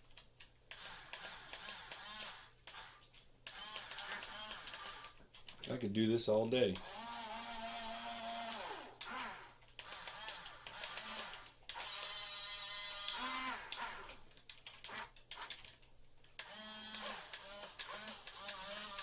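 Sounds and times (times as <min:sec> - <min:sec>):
toy excavator gear motors whining: 0:00.7 - 0:05.2, 0:06.8 - 0:15.8, 0:16.4 - 0:19.0.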